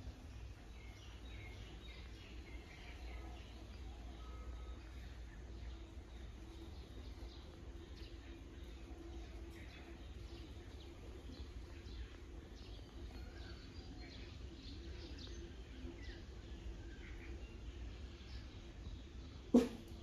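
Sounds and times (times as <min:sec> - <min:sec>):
low background rumble: 0:00.0 - 0:20.0
small birds chirping: 0:00.0 - 0:20.0.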